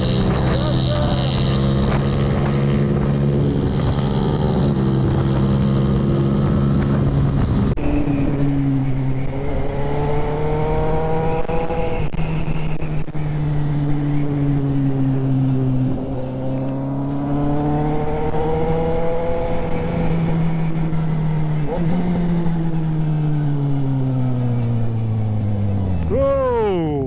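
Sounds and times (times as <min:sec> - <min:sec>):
wind rushing over microphone: 0:00.0 - 0:23.0
motorcycle engine running: 0:00.0 - 0:27.0.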